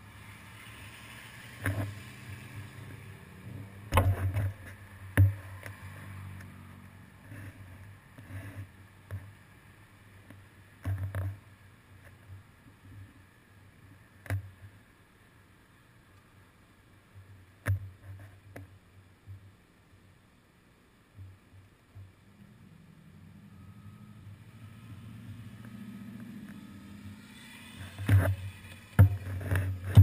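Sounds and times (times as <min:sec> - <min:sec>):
faint rumble of passing cars: 0:00.0 - 0:17.6, 0:19.8 - 0:30.0.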